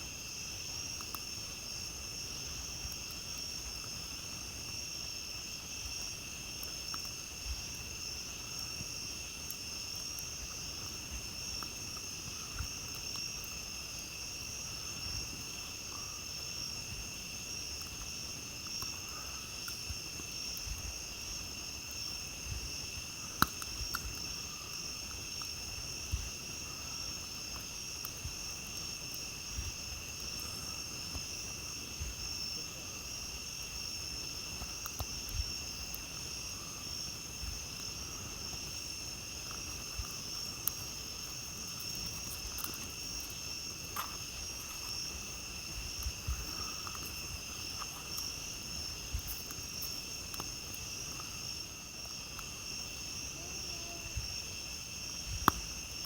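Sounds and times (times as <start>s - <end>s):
night insects trilling: 0.0s - 56.0s
campfire pops and crackles: 0.1s - 56.0s.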